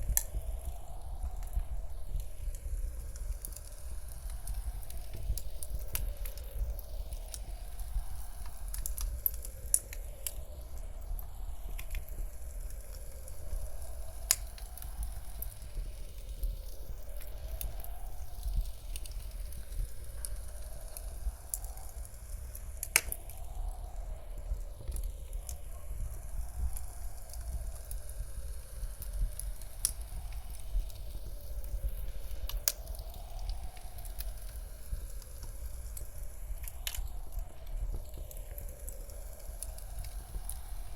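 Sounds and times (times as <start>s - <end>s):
blizzard wind rumble: 0.0s - 40.9s
wood fire crackling and popping: 0.0s - 40.9s.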